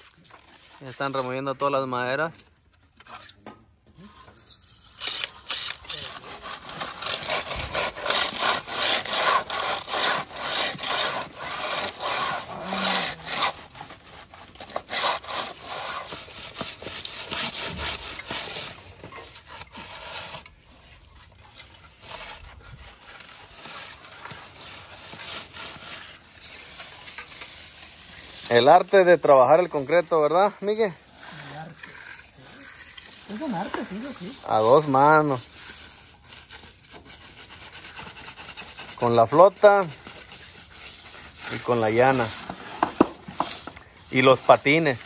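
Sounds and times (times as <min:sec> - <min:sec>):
trowel scraping on concrete: 0:00.0 - 0:45.0.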